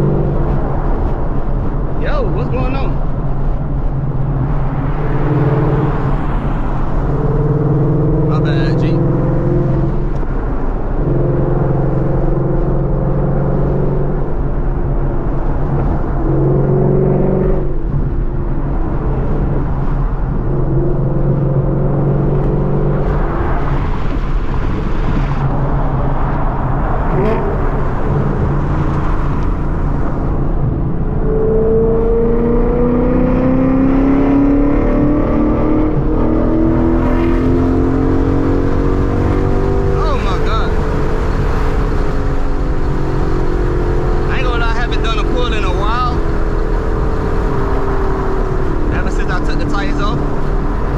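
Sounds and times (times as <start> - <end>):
car engine and exhaust running: 0.0 - 33.8, 34.4 - 50.9.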